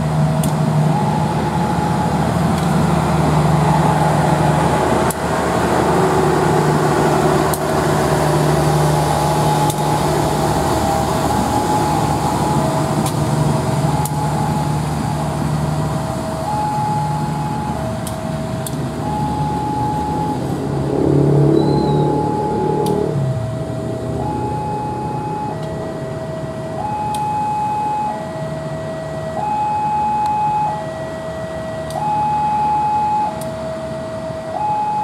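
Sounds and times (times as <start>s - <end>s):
diesel locomotive running: 0.0s - 35.0s.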